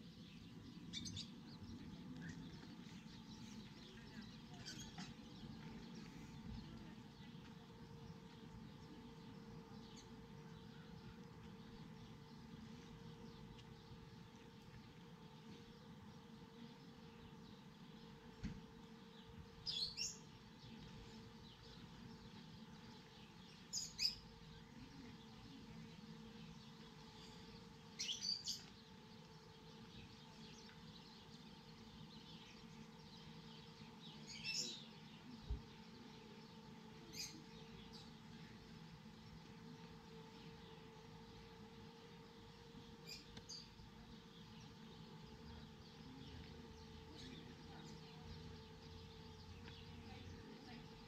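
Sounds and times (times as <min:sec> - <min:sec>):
bird chirping: 0:00.0 - 0:14.5, 0:15.2 - 0:51.0
faint steady hum: 0:00.0 - 0:51.0.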